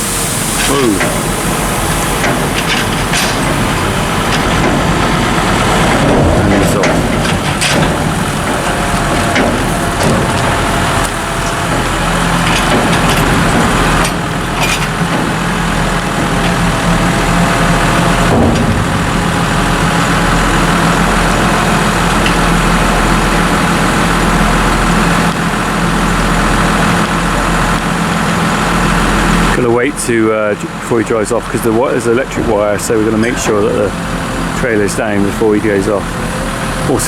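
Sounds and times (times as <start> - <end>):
tractor engine running: 0.0 - 37.0
trailer knocks and clanks: 0.0 - 37.0.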